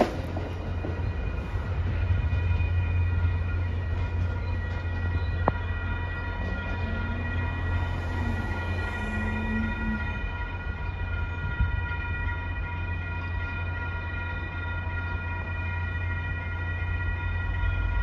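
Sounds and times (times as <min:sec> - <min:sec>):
railroad crossing bell ringing: 0:00.0 - 0:18.0.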